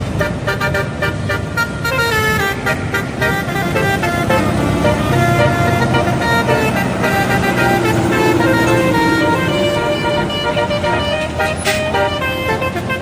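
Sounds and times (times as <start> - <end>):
bus engine rumble: 0.0 - 13.0
bus horn playing tune: 0.0 - 13.0.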